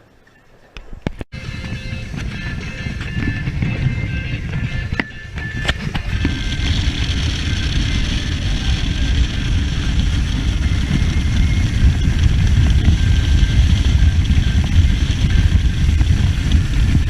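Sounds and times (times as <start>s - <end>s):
motorboat engine rumble: 0.0s - 17.0s.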